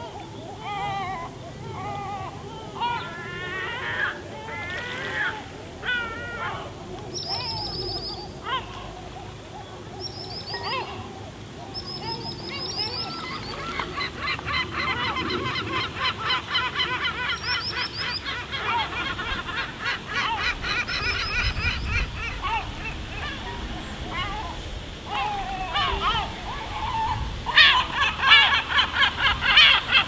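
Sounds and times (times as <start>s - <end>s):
seagulls calling: 0.0s - 30.0s.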